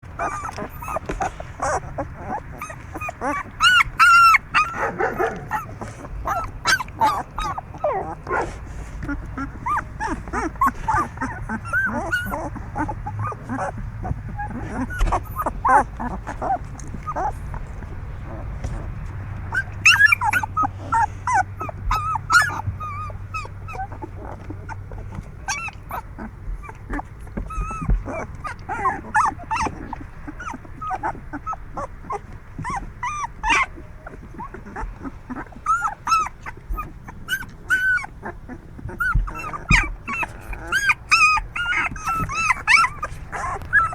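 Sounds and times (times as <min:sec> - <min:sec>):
puppies whimpering and yipping: 0:00.0 - 0:43.9.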